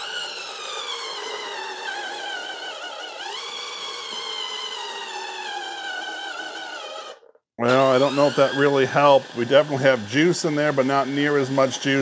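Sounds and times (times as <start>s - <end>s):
citrus juicer motor whining: 0.0s - 12.0s.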